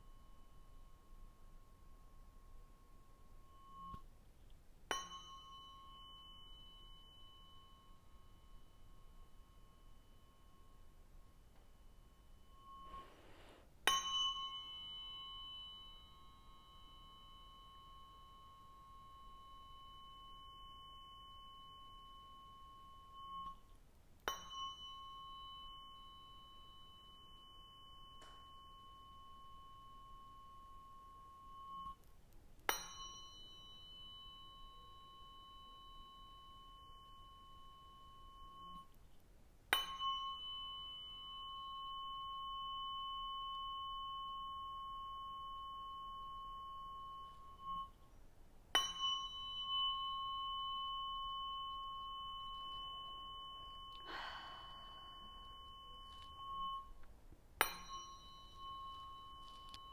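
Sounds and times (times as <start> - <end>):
tuning fork tap and ring: 0.0 - 59.9.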